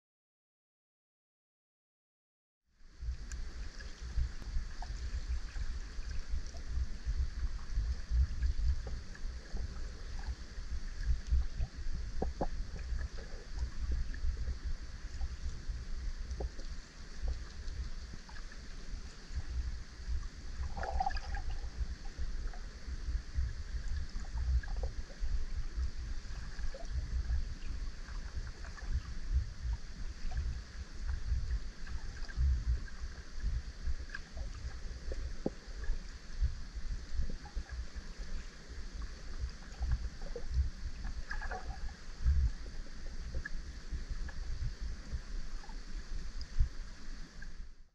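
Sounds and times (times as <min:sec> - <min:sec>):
underwater rumble of water: 0:02.7 - 0:47.9
faint underwater clicks: 0:03.0 - 0:47.7.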